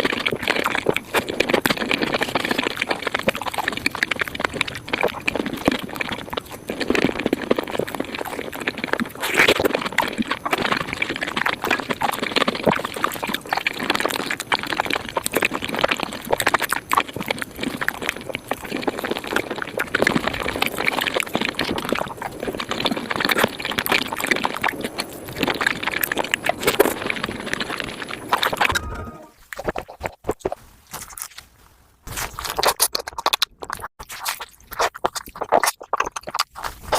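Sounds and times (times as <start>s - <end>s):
wet chewing clicks and squelches: 0.0s - 31.5s, 32.1s - 36.9s.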